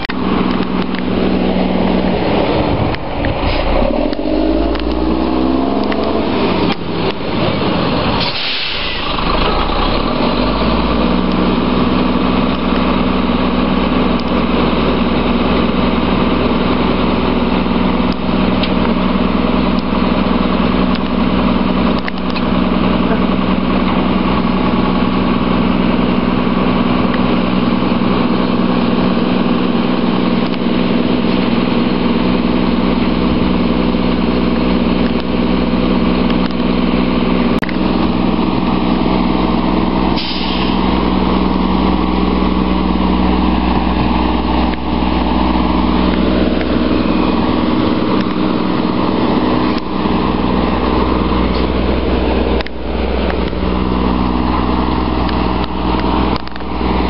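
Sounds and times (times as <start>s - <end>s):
garbage truck diesel engine idling: 6.8s - 57.0s.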